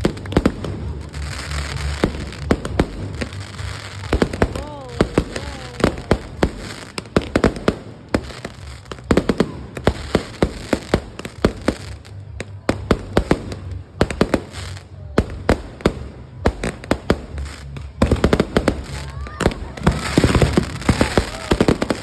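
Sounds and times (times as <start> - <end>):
fireworks bangs and pops: 0.0 - 22.0.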